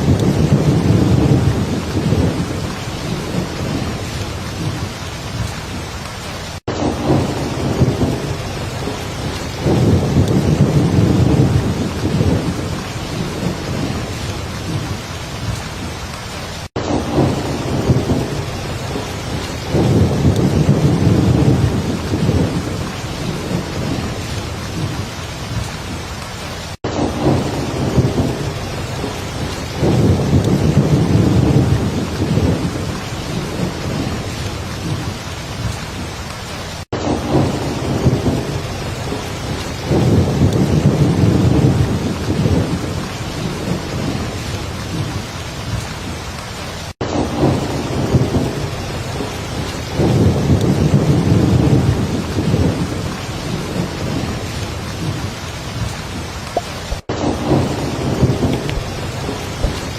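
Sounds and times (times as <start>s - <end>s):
low rolling thunder: 0.0s - 5.9s, 6.6s - 15.9s, 16.7s - 26.0s, 26.8s - 36.1s, 37.0s - 46.0s, 47.0s - 59.9s
heavy rain: 0.0s - 59.9s.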